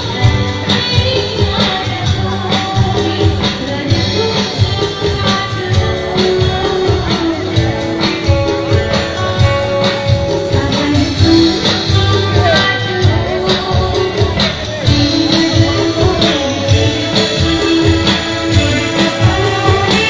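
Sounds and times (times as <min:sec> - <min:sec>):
drums: 0:00.0 - 0:20.0
keyboard: 0:00.0 - 0:20.0
woman singing: 0:00.0 - 0:20.0.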